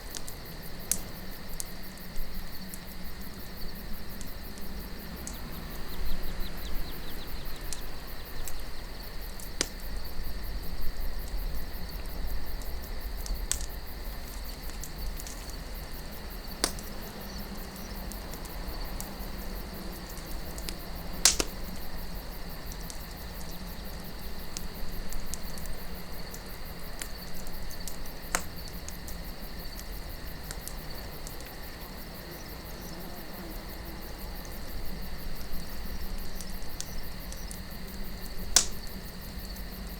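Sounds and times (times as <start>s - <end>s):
campfire crackling and popping: 0.0s - 39.9s
low rumble of wind: 0.0s - 39.9s.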